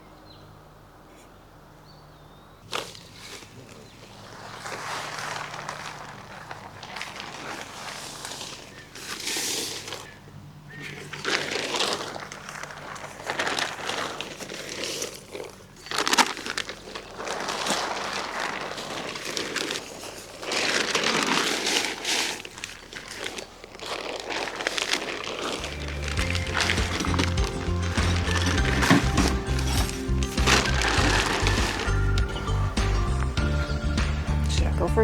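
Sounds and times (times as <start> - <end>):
material rustling and crinkling: 2.6 - 35.0.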